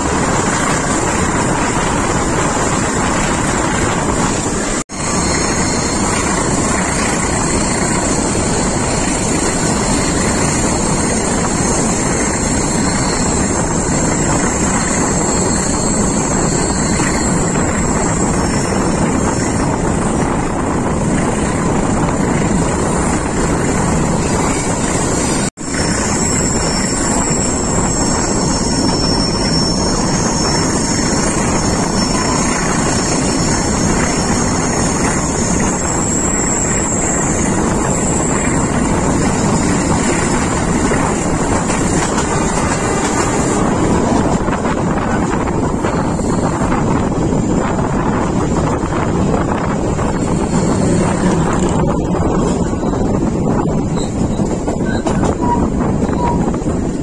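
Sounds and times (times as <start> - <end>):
train wheels rolling on rails: 0.0 - 57.0
wind rushing: 0.0 - 57.0.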